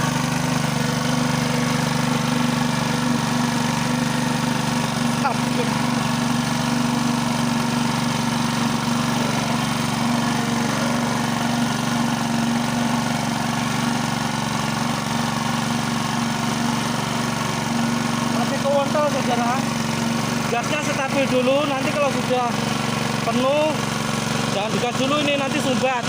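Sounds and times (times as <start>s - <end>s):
water pump engine running: 0.0s - 26.0s.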